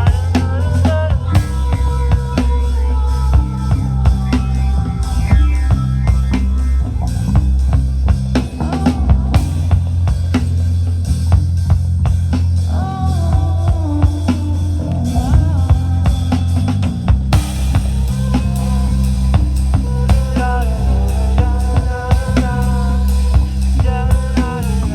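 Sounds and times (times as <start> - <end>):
drum kit beat: 0.0 - 24.9
heavy bass: 0.0 - 24.9.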